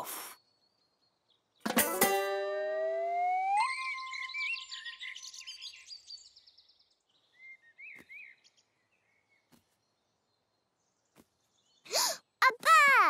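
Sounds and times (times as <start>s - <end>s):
birds chirping and trilling: 0.1s - 12.6s.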